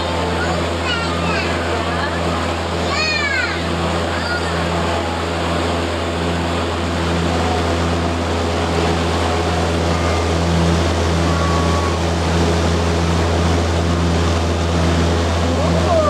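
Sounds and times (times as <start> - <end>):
boat engine droning: 0.0 - 16.0
rushing water: 0.0 - 16.0
wind: 0.0 - 16.0.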